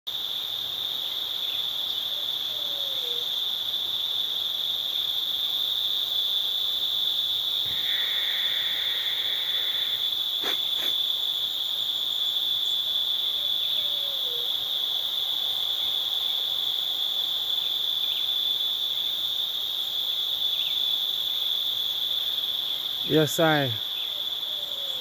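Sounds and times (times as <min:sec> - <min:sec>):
insects trilling: 0:00.1 - 0:25.0.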